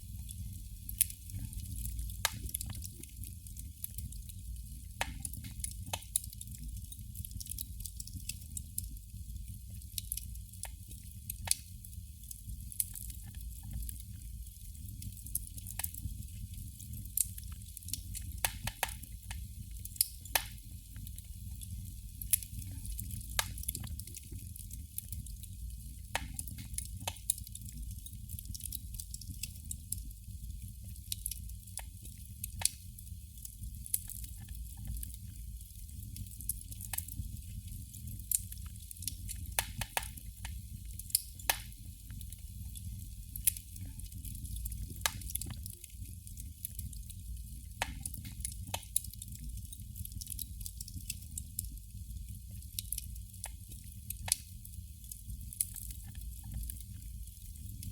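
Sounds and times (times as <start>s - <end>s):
candle flame crackling: 0.0s - 57.9s.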